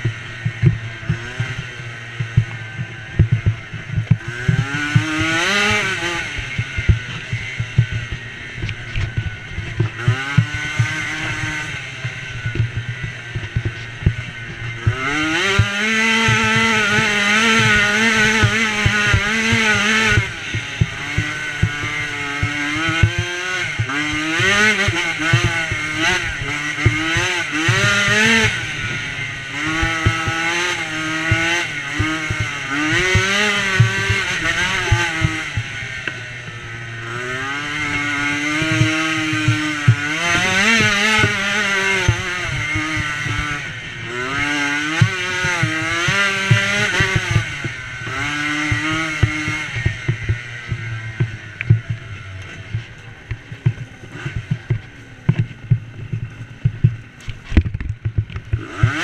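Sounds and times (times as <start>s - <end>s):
knocks and rattles over bumps: 0.0s - 59.0s
small engine revving: 0.0s - 59.0s.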